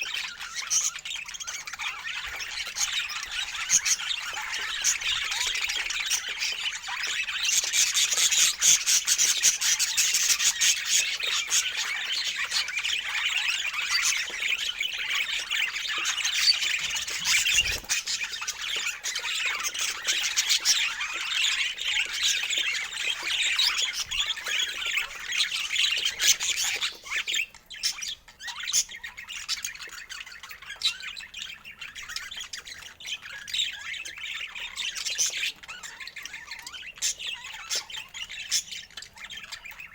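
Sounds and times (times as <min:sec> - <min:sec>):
birds squawking and chirping: 0:00.0 - 0:39.9.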